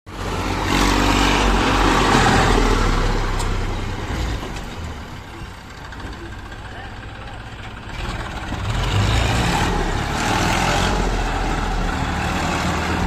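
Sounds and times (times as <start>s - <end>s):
heavy machinery diesel engine: 0.1s - 13.0s.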